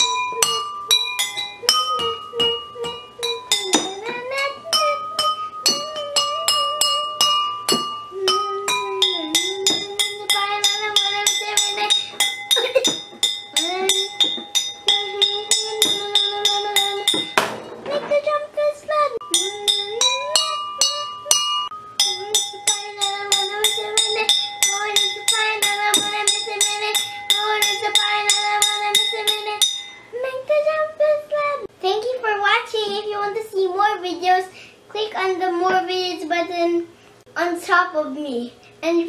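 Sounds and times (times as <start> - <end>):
child singing: 0.0 - 39.0.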